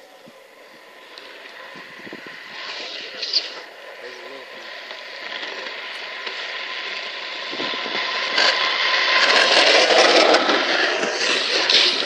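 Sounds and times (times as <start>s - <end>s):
wheels scraping on asphalt: 0.0s - 12.0s.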